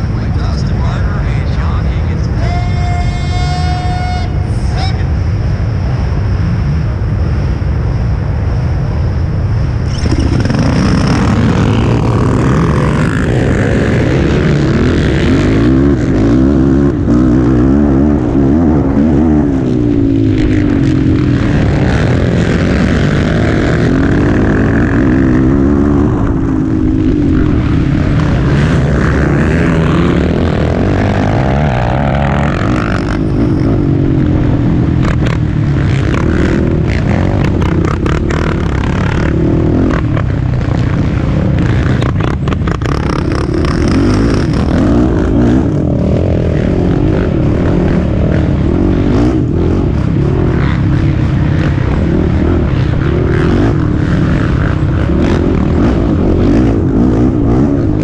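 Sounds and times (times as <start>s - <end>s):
racing quad engines revving: 0.0s - 5.3s, 9.8s - 58.0s.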